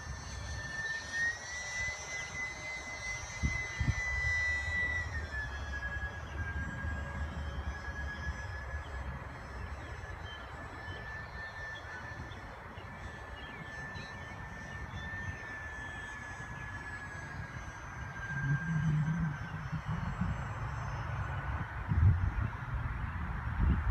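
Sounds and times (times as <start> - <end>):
model plane motors whining: 0.0 - 23.9.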